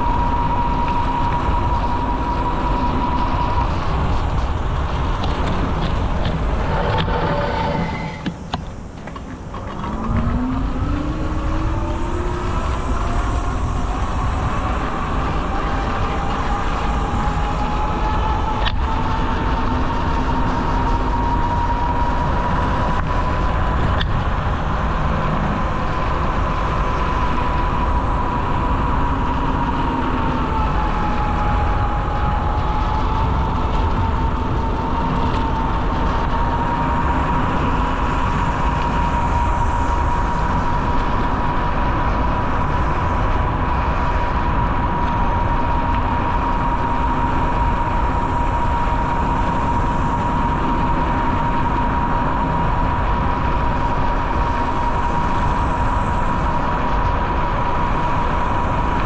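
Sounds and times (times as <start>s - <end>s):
steady whine: 0.0s - 59.0s
wind rushing over microphone: 0.0s - 59.0s.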